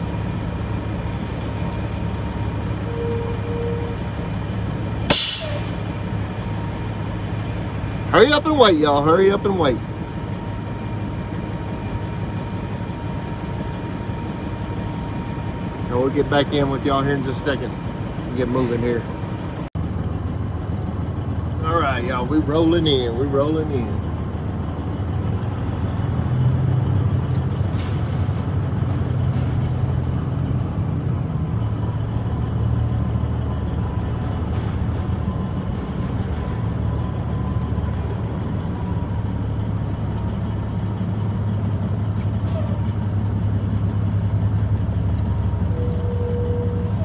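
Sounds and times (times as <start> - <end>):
diesel truck engine rumbling: 0.0 - 47.0.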